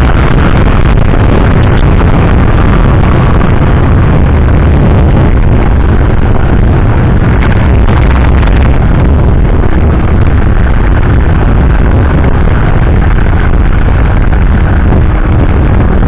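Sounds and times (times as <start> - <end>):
motorcycle engine rumble: 0.0 - 16.0
wind rush: 0.0 - 16.0.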